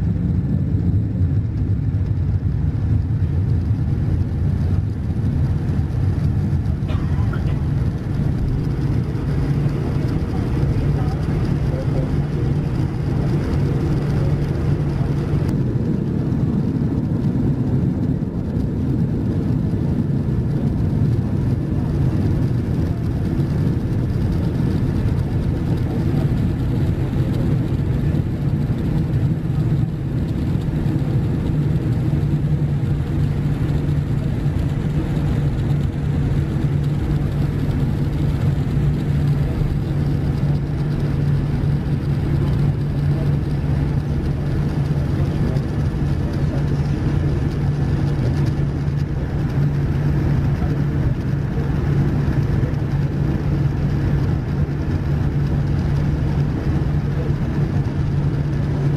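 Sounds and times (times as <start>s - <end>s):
jet engines idling low hum: 0.0s - 58.9s.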